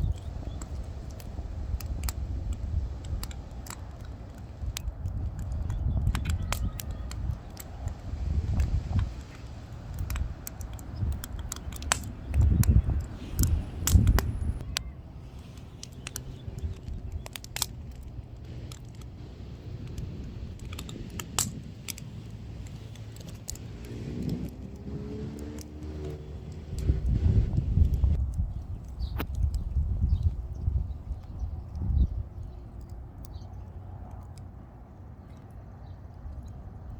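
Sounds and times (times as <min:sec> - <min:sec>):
low rumbles: 0:00.0 - 0:35.3
firewood crackling and popping: 0:00.0 - 0:36.9.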